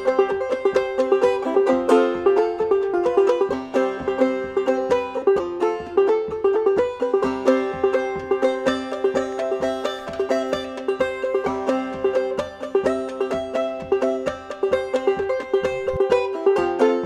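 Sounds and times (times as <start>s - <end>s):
banjo plucked melody: 0.0s - 17.0s.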